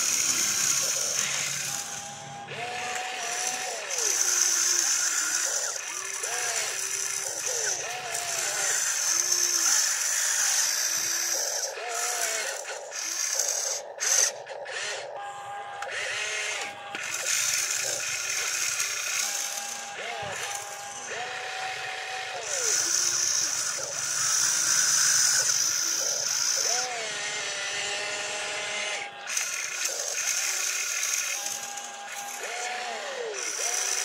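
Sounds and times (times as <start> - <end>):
electric motors and gearboxes whirring: 0.0 - 34.0.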